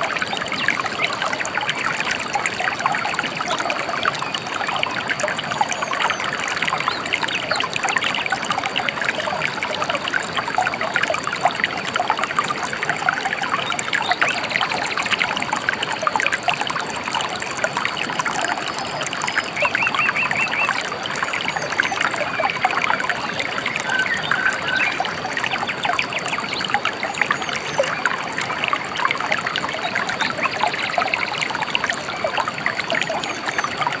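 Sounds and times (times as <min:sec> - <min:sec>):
river trickling and babbling: 0:00.0 - 0:34.0.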